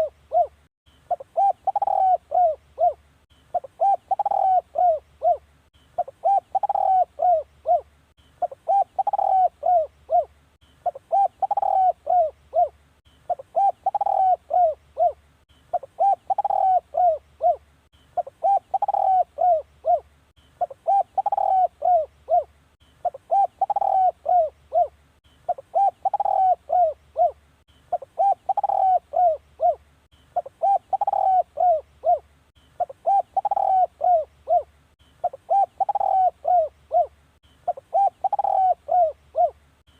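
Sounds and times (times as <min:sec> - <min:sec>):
dove cooing: 0:00.0 - 0:17.6, 0:18.2 - 0:39.9.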